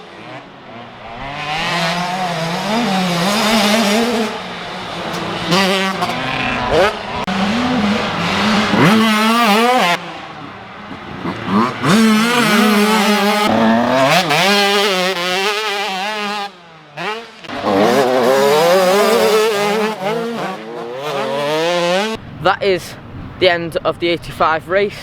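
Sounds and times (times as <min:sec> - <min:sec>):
motocross bikes racing past: 0:00.0 - 0:22.3.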